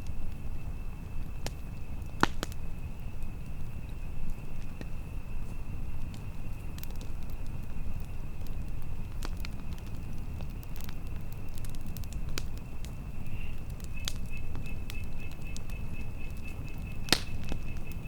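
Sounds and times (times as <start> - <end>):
campfire crackling and popping: 0.0 - 18.0
wind: 0.0 - 18.0.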